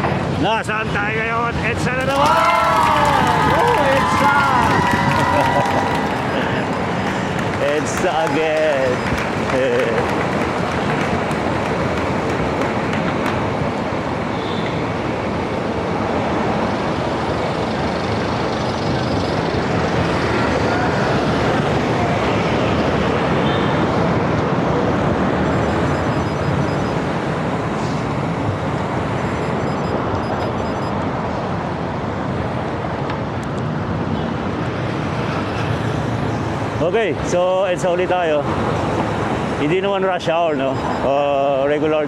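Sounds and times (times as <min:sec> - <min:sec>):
busy highway traffic passing: 0:00.0 - 0:42.0.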